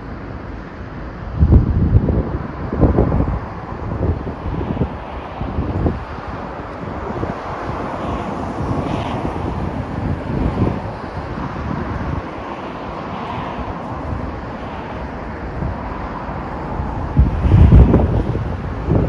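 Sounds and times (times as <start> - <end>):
highway traffic hiss: 0.0 - 19.0
wind buffeting microphone: 0.0 - 19.0.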